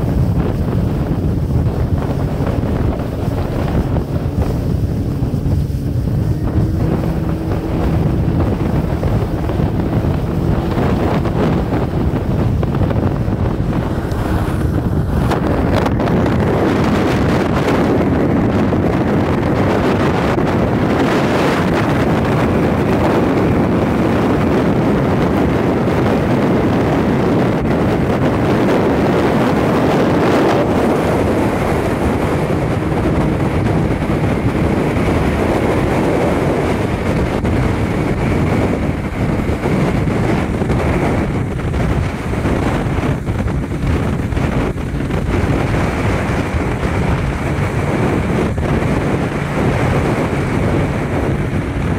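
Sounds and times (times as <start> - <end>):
outboard motor running: 0.0 - 51.9
water rushing along hull: 0.0 - 51.9
wind buffeting microphone: 0.0 - 51.9.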